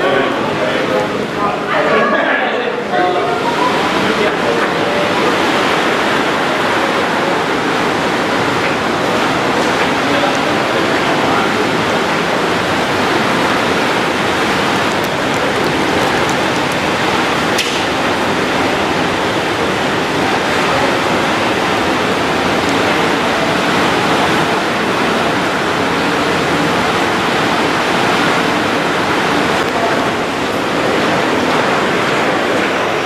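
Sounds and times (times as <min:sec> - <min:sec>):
strong wind and driving rain: 0:00.0 - 0:33.0.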